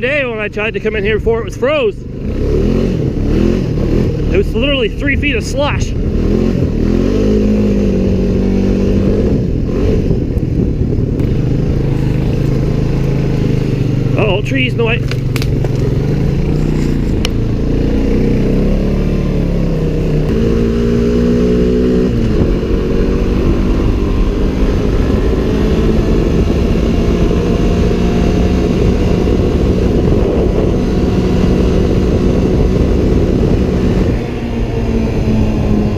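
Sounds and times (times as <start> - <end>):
off-road vehicle engine: 0.0 - 35.9.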